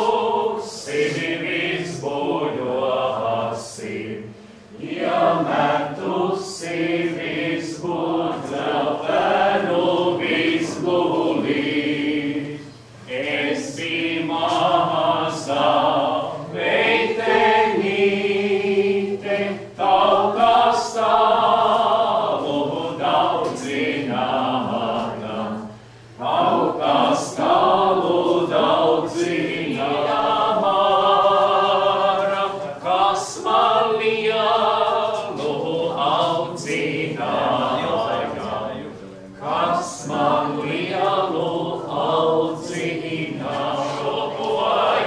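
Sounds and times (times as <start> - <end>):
group singing folk song: 0.0 - 45.0.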